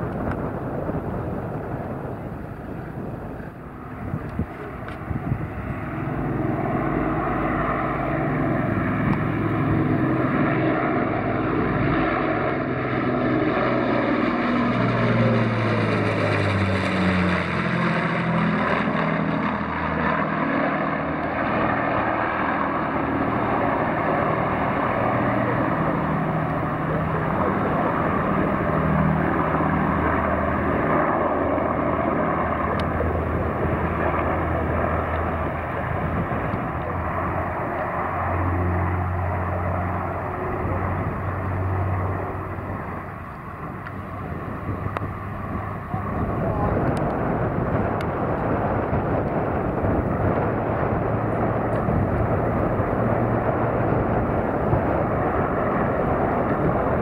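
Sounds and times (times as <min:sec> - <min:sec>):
aircraft piston engines roaring: 0:00.0 - 0:57.0.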